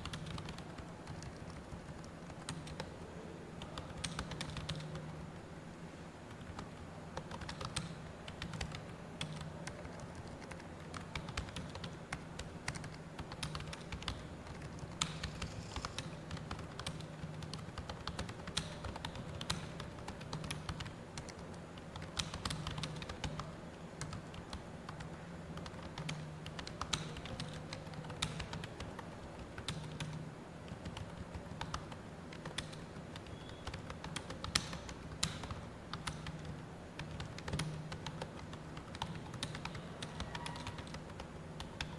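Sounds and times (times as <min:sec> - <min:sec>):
keyboard typing clicks: 0:00.0 - 0:03.0, 0:03.6 - 0:05.2, 0:06.3 - 0:41.9
steady low hum: 0:00.0 - 0:41.9.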